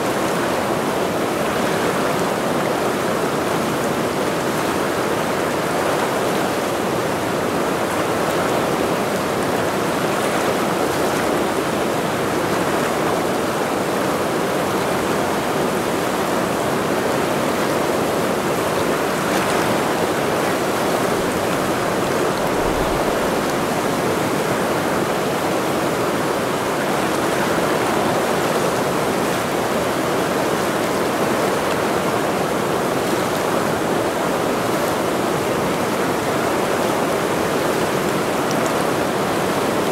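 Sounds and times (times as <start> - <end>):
mountain river rushing: 0.0 - 39.9.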